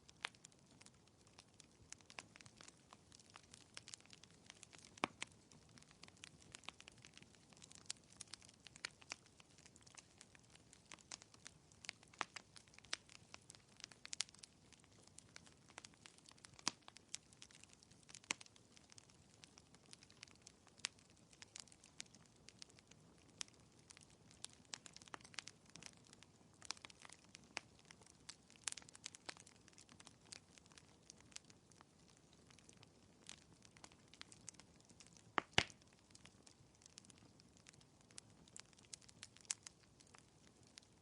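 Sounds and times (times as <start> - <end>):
faint low hiss: 0.0 - 41.0
fireplace crackling: 0.0 - 41.0.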